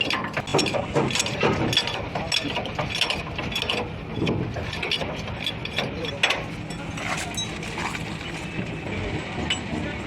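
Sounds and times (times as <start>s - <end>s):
hand tools clicking on metal: 0.0s - 8.3s.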